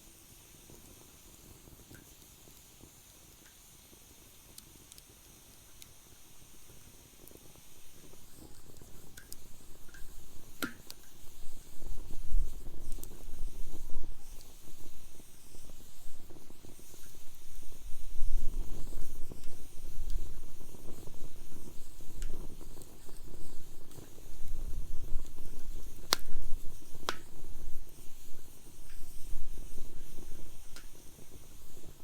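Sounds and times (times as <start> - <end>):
wood fire crackling: 0.6 - 32.0
fire popping: 4.5 - 32.0.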